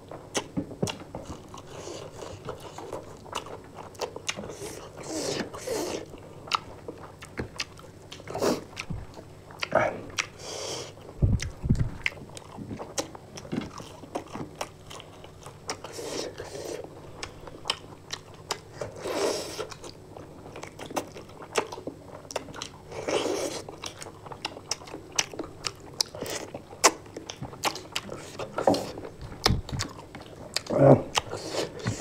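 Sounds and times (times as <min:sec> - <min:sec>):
people chewing and biting: 0:00.0 - 0:32.0.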